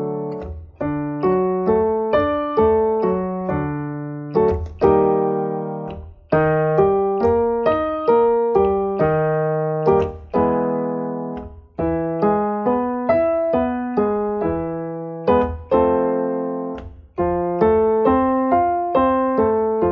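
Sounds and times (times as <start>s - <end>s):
electronic keyboard piano notes: 0.0s - 19.9s.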